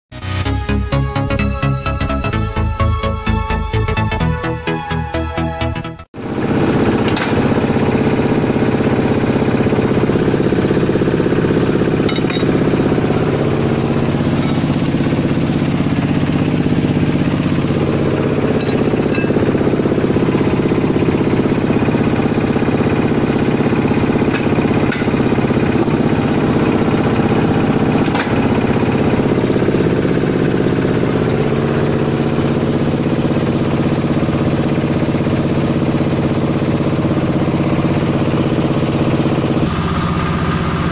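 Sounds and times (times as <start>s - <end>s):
bending machine motor running: 6.2s - 40.9s.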